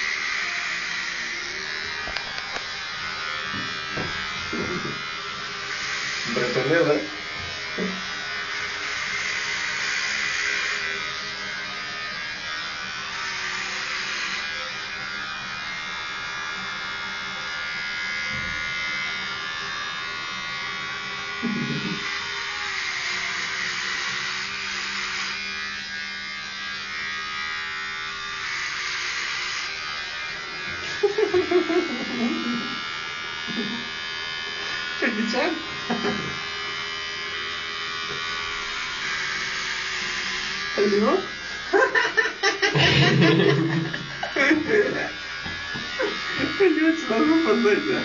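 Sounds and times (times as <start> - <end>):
electric hair clippers buzzing: 0.0 - 48.0.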